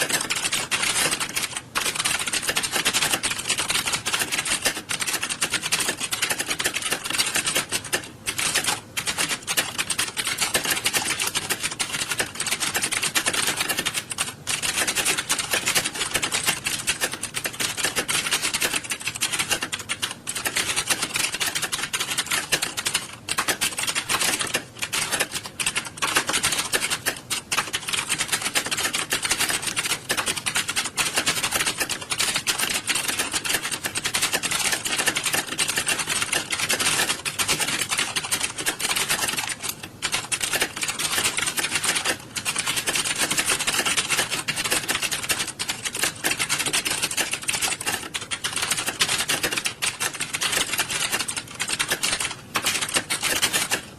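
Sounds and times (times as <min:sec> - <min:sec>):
fast typing on computer keyboards: 0:00.0 - 0:53.9.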